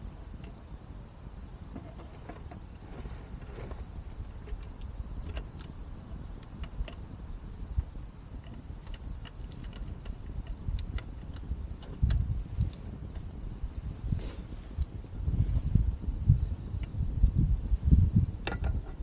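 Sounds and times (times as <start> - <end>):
campfire crackling: 0.0 - 18.9.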